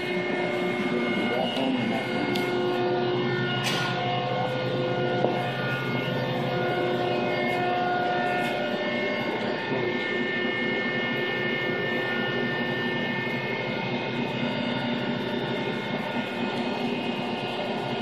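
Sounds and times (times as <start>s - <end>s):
high steady whine: 0.0s - 18.0s
hydraulic power unit humming: 0.0s - 18.0s.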